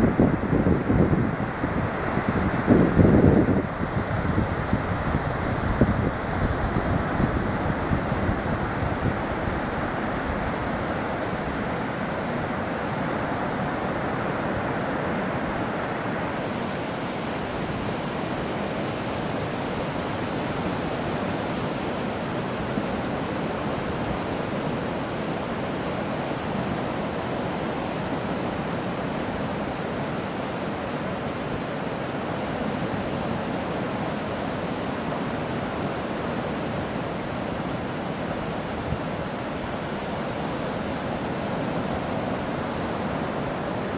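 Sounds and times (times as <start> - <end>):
waves breaking on a beach: 0.0 - 43.9
wind buffeting the microphone: 0.0 - 43.9.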